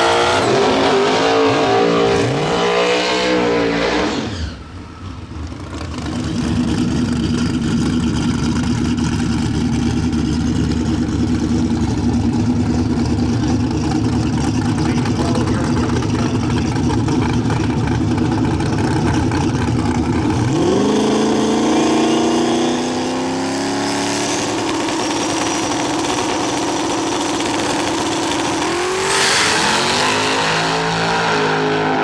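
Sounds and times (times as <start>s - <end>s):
drag race car engine revving: 0.0s - 32.0s.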